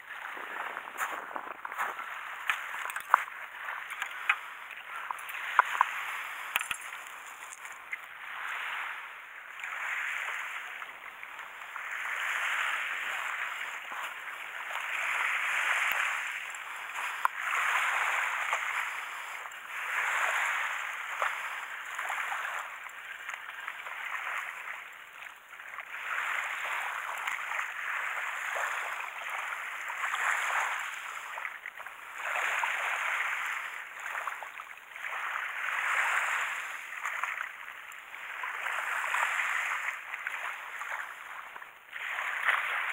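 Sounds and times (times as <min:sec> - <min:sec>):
small waves washing on beach: 0:00.0 - 0:42.9.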